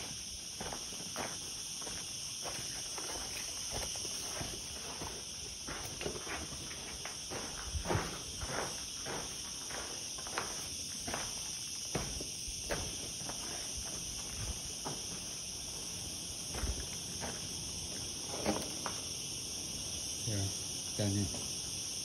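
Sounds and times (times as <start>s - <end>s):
footsteps crunching on gritty concrete: 0.0s - 19.2s
insects chirring: 0.0s - 22.0s.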